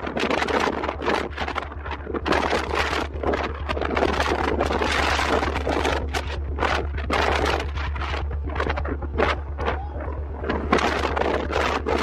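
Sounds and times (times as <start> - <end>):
vehicle low hum: 0.0 - 12.0
wind buffeting microphone: 0.0 - 12.0.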